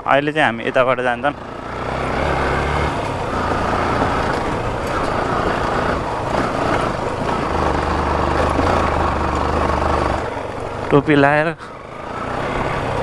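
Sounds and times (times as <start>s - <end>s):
wind and road noise: 0.0s - 13.0s
motorcycle engine running: 0.6s - 13.0s.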